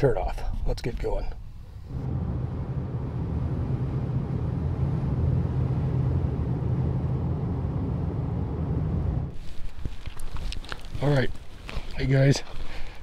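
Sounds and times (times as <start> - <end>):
car engine and road rumble: 0.0 - 12.6.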